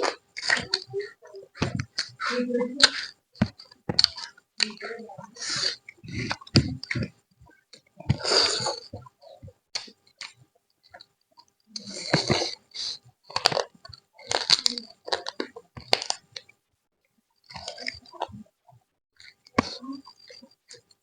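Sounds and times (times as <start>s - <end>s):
person chewing and smacking: 0.0s - 16.5s, 17.5s - 18.5s.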